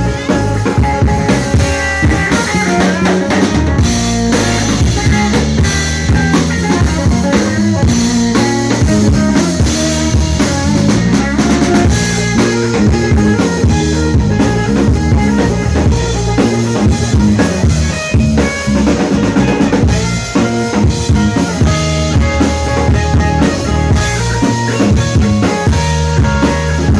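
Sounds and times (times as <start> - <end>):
blues band jamming: 0.0 - 26.9
drum kit: 0.0 - 26.9.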